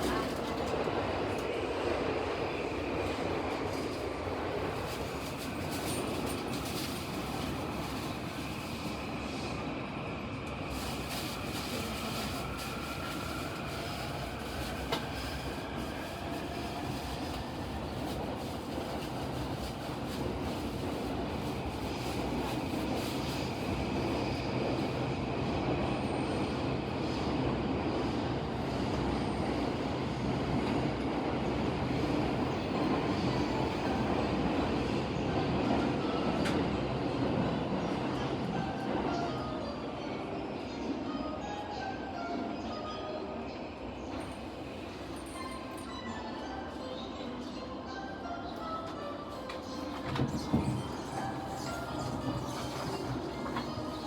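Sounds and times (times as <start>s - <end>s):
train wheels on rail rumbling: 0.0s - 38.9s, 49.6s - 54.0s.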